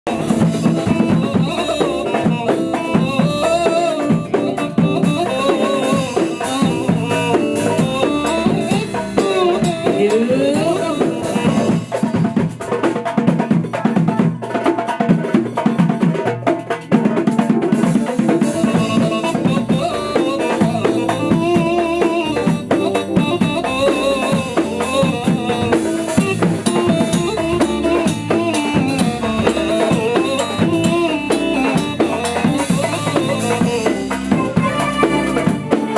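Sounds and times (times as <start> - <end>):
drum kit beat: 0.0 - 35.9
ornamented melody line: 0.1 - 12.7, 16.6 - 35.9.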